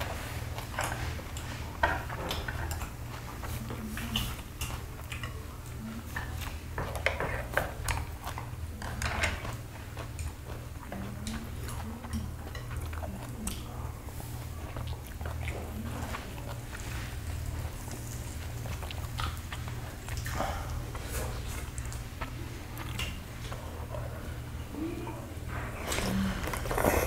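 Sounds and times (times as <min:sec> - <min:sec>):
person chewing: 0:00.0 - 0:24.5, 0:25.6 - 0:27.0
steady low hum: 0:00.0 - 0:27.0.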